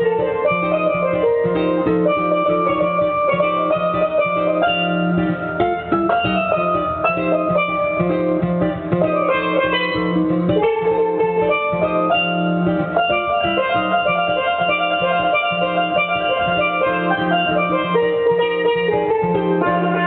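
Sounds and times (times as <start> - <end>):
guitar accompaniment: 0.0 - 20.0
steelpans playing melody: 0.0 - 20.0.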